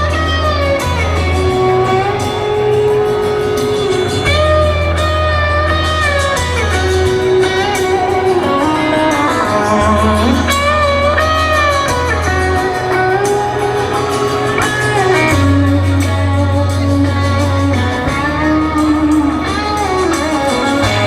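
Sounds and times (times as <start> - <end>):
bass notes: 0.0 - 21.0
electric guitar: 0.0 - 21.0
live rock band playing: 0.0 - 21.0.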